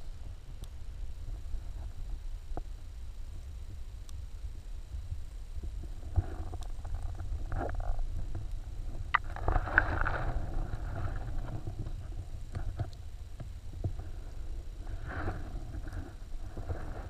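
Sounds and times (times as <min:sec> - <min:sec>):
underwater water rumble: 0:00.3 - 0:17.0.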